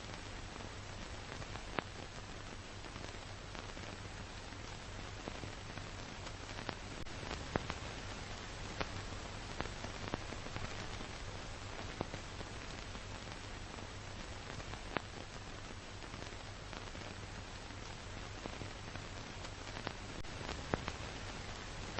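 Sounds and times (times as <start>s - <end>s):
film surface hiss and hum: 0.0s - 21.9s.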